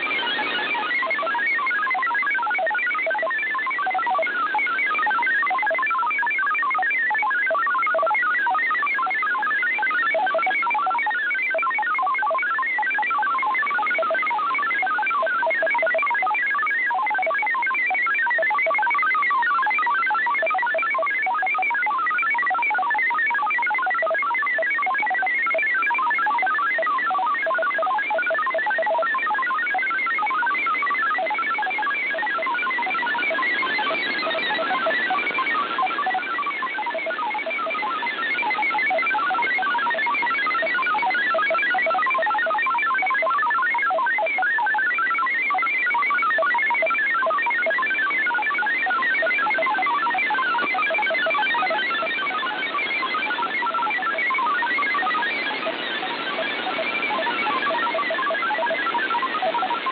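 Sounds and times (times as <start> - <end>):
digital radio signal tones: 0.0 - 59.9.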